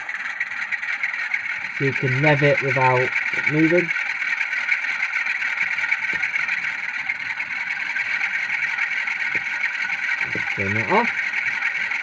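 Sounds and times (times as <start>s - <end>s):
diesel engine sound through small speaker: 0.0s - 12.0s.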